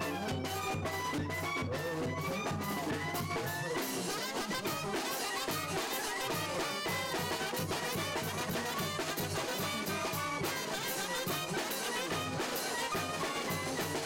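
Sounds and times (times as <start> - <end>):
brass instruments: 0.0 - 14.0
drums keeping a steady beat: 0.0 - 14.0.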